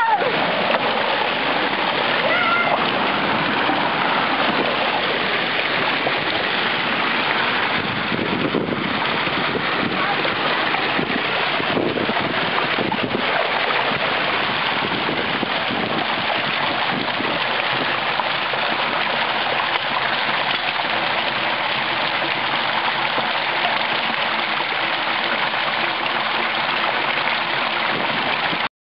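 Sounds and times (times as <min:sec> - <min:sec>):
rainwater rushing over stone: 0:00.0 - 0:28.7.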